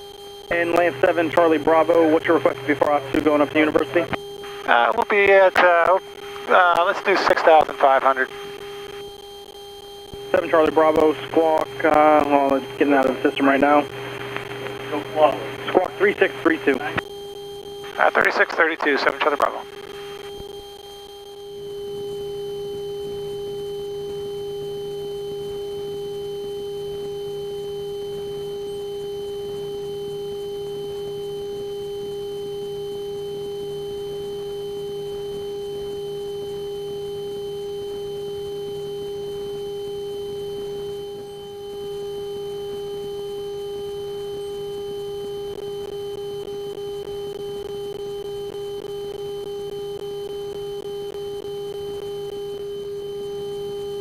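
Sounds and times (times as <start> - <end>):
steady electrical whine: 0.0 - 54.0.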